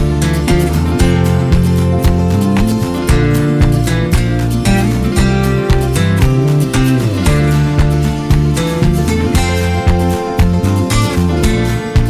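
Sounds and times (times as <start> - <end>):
acoustic guitar strumming: 0.0 - 12.0
steady beat: 0.0 - 12.0.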